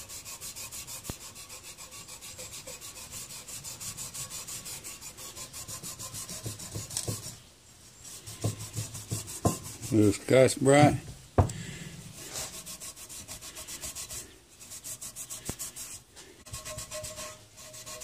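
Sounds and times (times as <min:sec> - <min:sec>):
abrasive pad scrubbing metal: 0:00.0 - 0:07.4, 0:08.1 - 0:10.9, 0:12.0 - 0:18.0.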